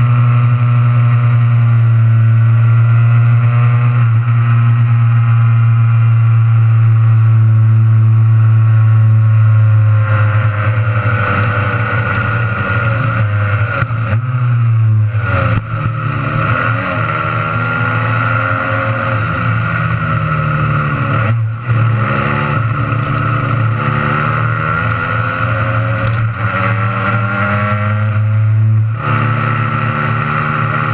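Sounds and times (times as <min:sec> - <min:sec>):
two-stroke racing engine revving: 0:00.0 - 0:30.9.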